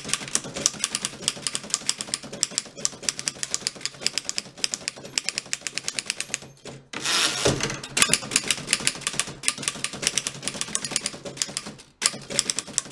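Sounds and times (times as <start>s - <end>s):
typewriter keys clacking: 0.0s - 6.9s, 7.5s - 12.9s
typewriter carriage return: 0.0s - 12.9s.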